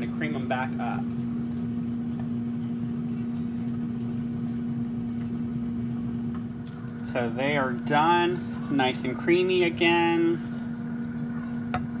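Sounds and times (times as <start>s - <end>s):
air fryer fan humming: 0.0s - 12.0s.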